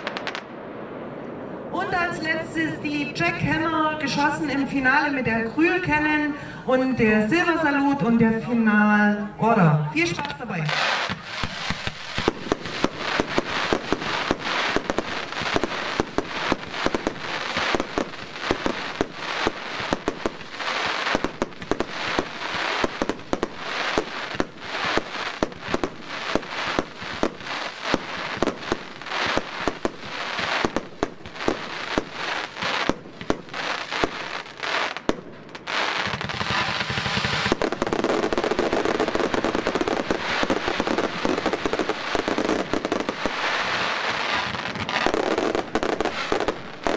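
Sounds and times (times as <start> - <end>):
firework crackling: 0.0 - 46.9.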